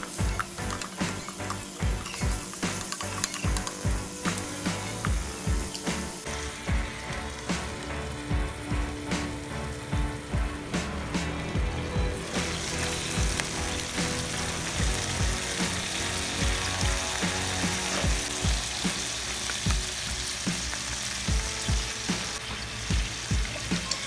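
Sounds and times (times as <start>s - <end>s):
background music with steady beat: 0.0s - 24.0s
food sizzling in a pan: 0.0s - 24.0s.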